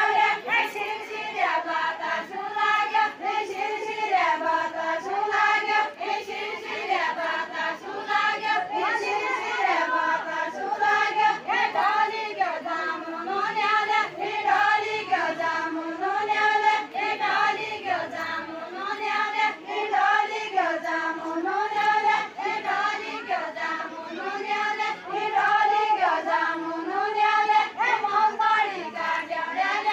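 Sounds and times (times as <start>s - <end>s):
women singing unaccompanied: 0.0s - 29.9s.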